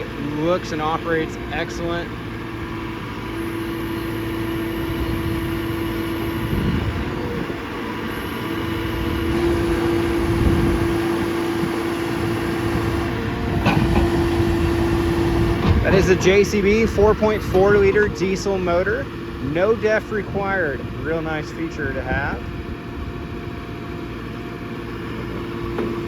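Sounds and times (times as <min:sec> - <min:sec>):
diesel engine running: 0:00.0 - 0:26.0
steady whine: 0:00.0 - 0:26.0.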